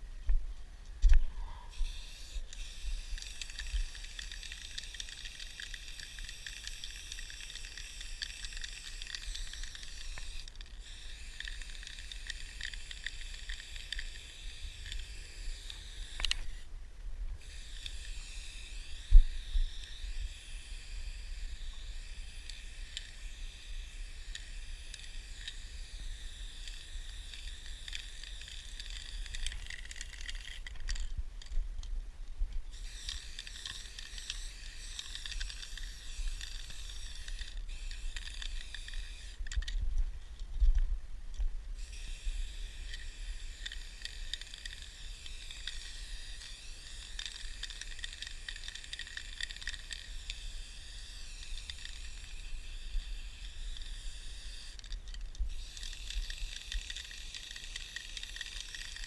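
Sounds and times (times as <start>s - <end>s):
spray paint can hissing: 1.7s - 16.6s, 17.4s - 30.6s, 32.7s - 39.7s, 41.8s - 59.0s.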